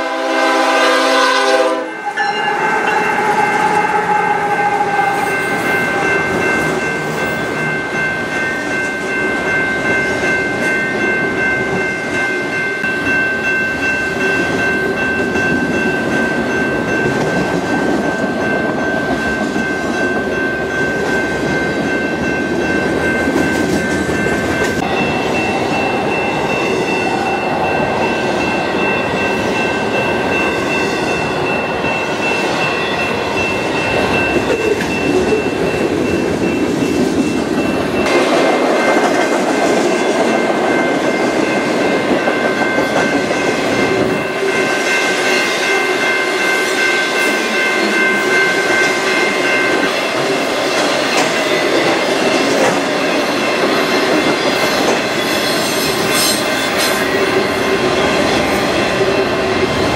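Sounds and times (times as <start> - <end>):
freight train wheels rumbling: 0.0 - 59.9
high-pitched tones: 1.8 - 59.9.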